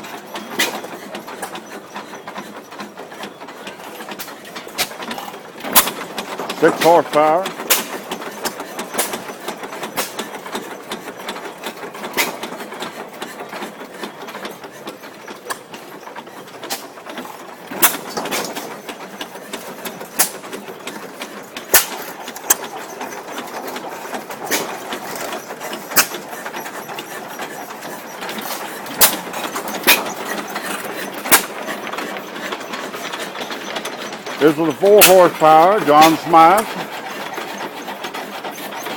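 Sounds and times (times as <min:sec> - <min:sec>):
mechanical clatter of engine: 0:00.0 - 0:38.9.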